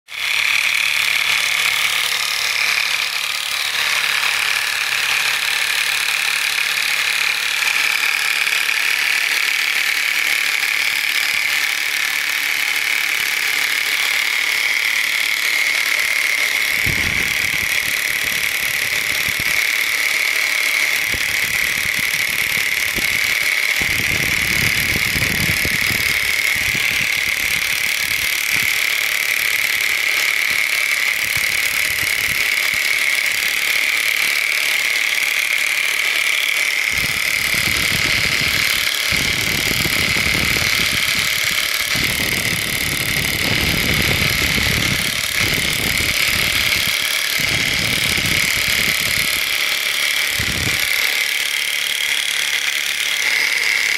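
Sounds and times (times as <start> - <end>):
demolition hammer scraping concrete: 0.1 - 53.9.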